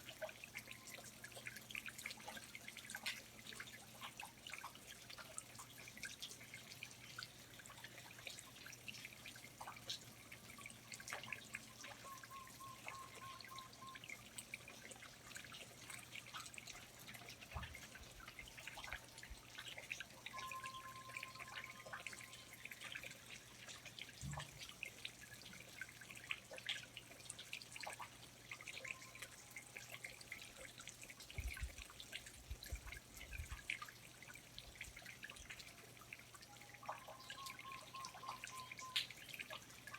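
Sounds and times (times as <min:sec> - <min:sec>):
water dripping from foliage: 0:00.0 - 0:39.9.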